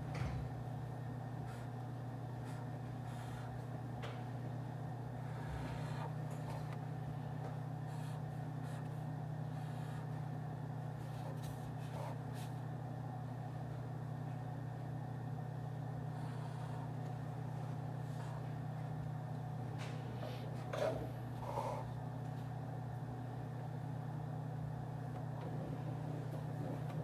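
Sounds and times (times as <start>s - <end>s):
ventilation hum: 0.0s - 27.0s.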